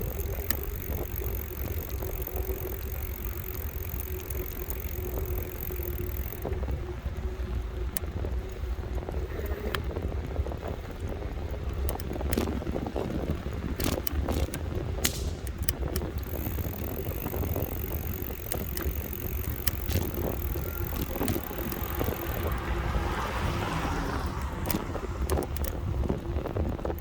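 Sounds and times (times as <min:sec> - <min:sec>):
bike clicks and rattles: 0:00.0 - 0:27.0
wind rumbling on microphone: 0:00.0 - 0:27.0.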